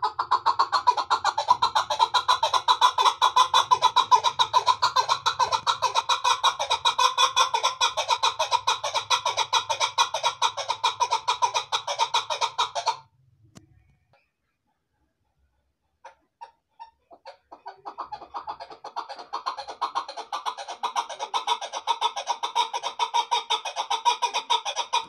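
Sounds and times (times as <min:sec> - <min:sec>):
partridge clucking call: 0:00.0 - 0:13.0, 0:16.0 - 0:25.0.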